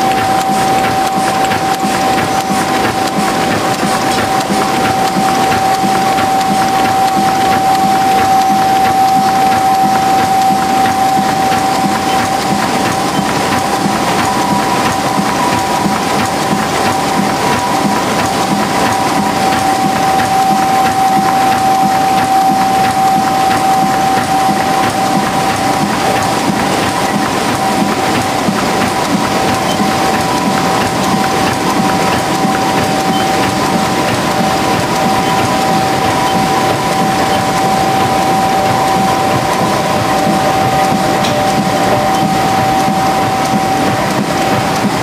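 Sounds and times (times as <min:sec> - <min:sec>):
machine clattering with rapid clicks: 0:00.0 - 0:45.0
machine whine: 0:00.0 - 0:45.0.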